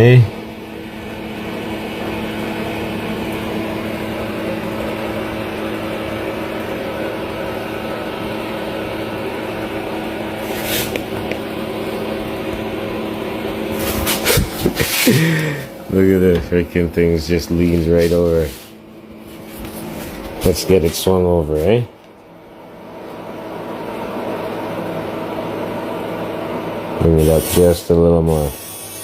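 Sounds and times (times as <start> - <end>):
electric motor whirring hum: 0.0 - 29.0.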